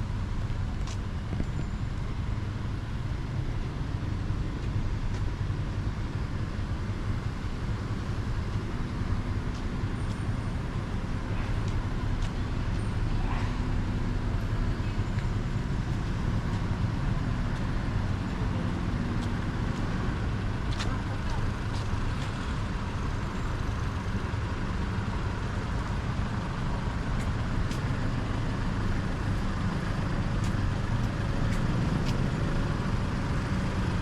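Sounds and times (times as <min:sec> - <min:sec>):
street traffic passing: 0:00.0 - 0:34.0.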